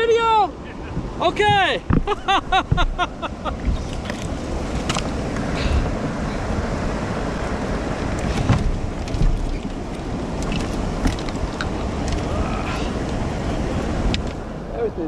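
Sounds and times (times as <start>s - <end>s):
wind buffeting microphone: 0.0s - 14.9s
fast river current rushing: 0.0s - 15.0s.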